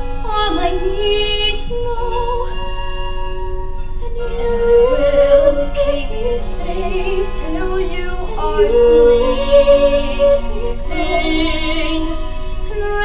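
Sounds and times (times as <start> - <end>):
ballad accompaniment: 0.0 - 13.0
woman singing with vibrato: 0.0 - 13.0.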